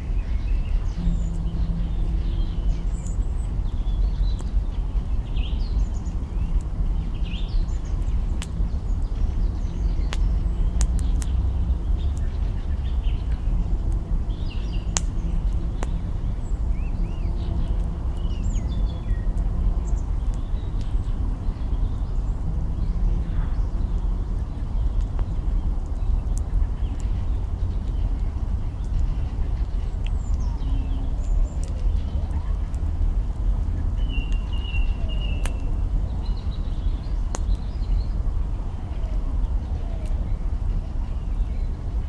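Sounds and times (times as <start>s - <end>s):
fire low rumble: 0.0s - 42.0s
small birds chirping: 0.0s - 42.0s
campfire crackling and popping: 0.7s - 41.9s.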